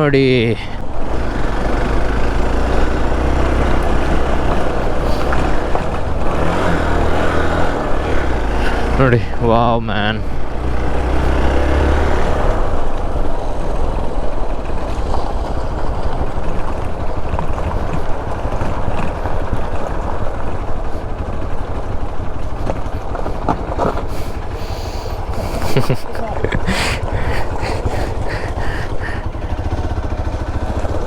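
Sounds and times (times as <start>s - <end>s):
motorcycle engine rumbling: 0.0s - 31.0s.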